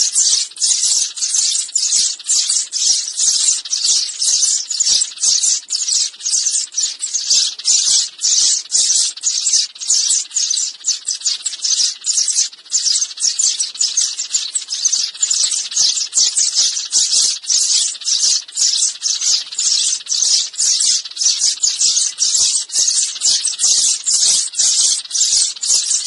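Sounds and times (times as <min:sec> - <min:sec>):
sparrows chirping: 0:00.0 - 0:26.0.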